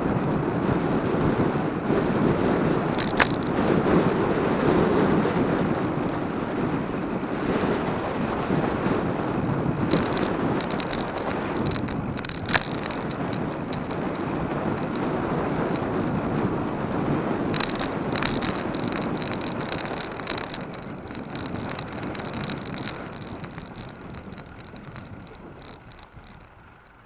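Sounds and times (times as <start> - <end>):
bicycle rattling over bumps: 0.0 - 27.0
wind buffeting microphone: 0.0 - 27.0.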